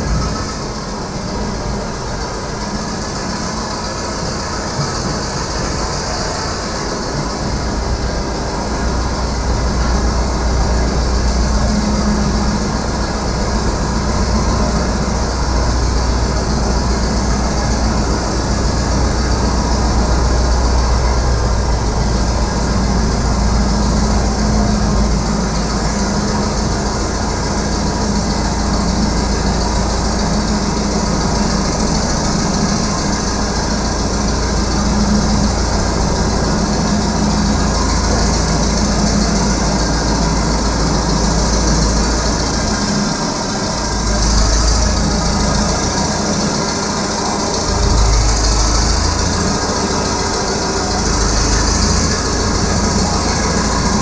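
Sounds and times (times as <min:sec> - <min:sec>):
diesel engine running: 0:00.0 - 0:54.0
steel tracks clanking: 0:00.0 - 0:54.0.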